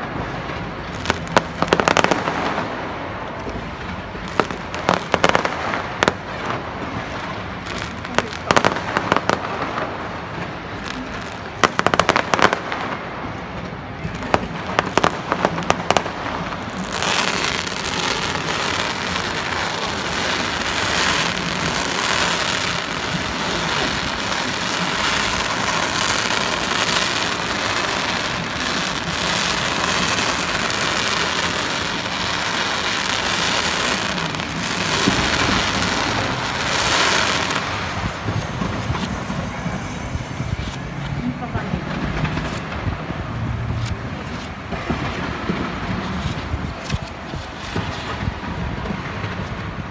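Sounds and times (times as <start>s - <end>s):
fireworks bangs and crackle: 0.0s - 49.9s.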